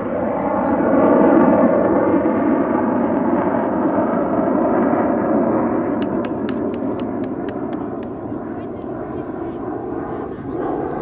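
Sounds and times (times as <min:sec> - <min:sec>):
jet roar: 0:00.0 - 0:11.0.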